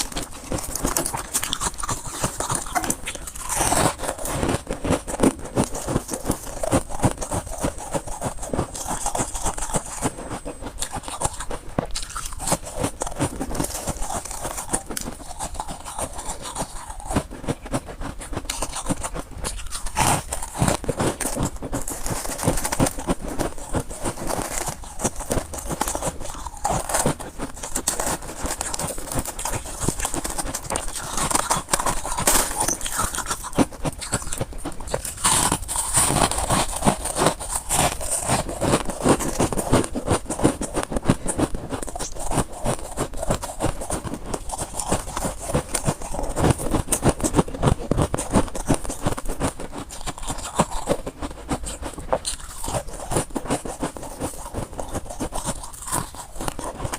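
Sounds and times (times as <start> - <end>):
crunching and chewing ice: 0.0 - 56.9.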